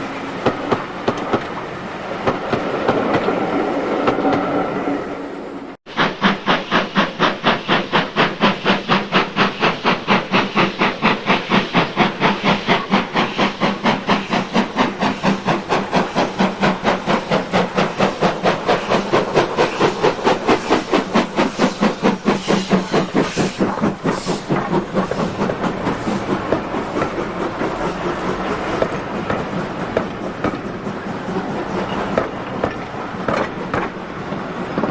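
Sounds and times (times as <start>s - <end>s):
steam locomotive chuffing: 0.0s - 34.9s.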